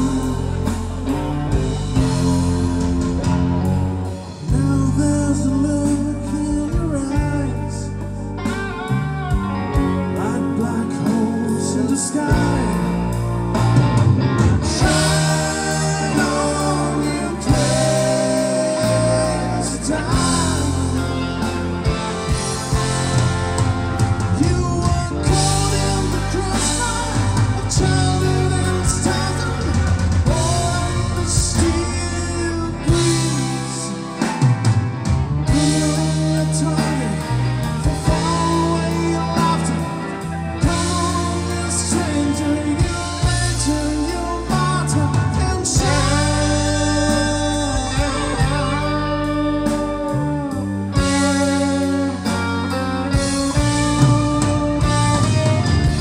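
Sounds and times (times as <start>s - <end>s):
person singing: 0.0s - 2.2s, 4.1s - 13.3s, 14.6s - 23.2s, 24.2s - 34.7s, 35.5s - 56.0s
bass: 0.0s - 56.0s
drums: 0.0s - 56.0s
electric guitars: 0.0s - 56.0s.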